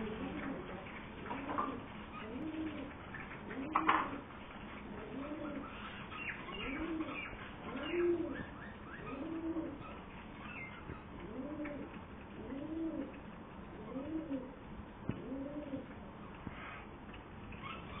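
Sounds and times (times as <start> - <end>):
birds cooing: 0.0 - 16.0.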